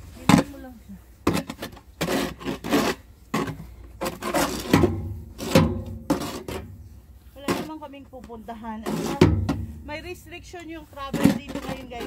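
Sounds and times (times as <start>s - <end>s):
snow shovel scraping: 0.0s - 12.0s.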